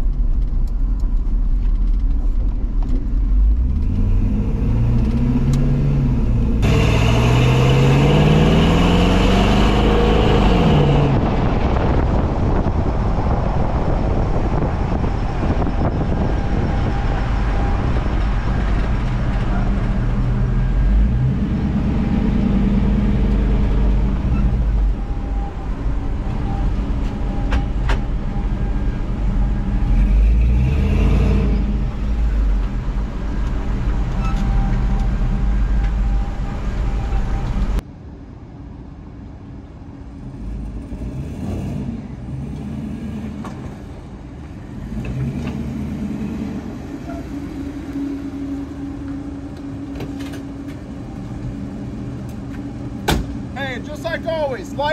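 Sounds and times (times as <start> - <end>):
road rumble: 0.0 - 54.9.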